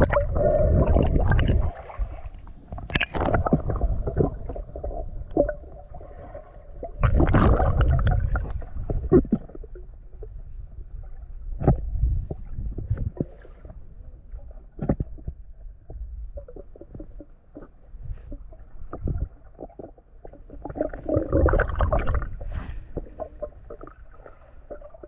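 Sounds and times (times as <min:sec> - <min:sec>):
muffled water sloshing underwater: 0:00.0 - 0:25.0.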